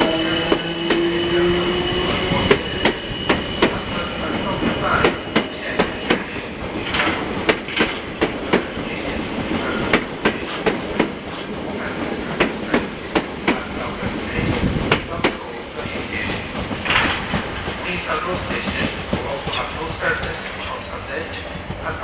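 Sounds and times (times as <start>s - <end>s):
wheels clacking over rail joints: 0.0s - 20.6s
train rumbling past: 0.0s - 22.0s.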